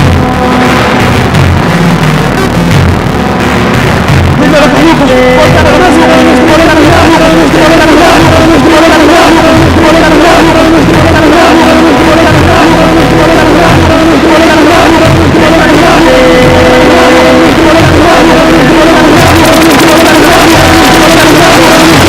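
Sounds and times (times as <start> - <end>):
live music with droning tones: 0.0 - 22.0.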